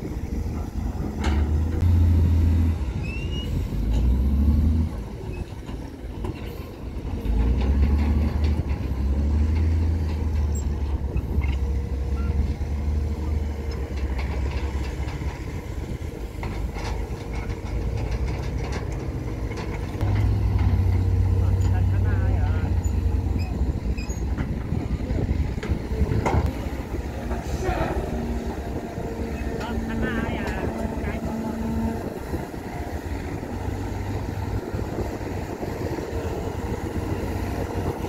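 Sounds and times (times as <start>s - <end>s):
diesel machinery engine running: 0.0s - 38.0s.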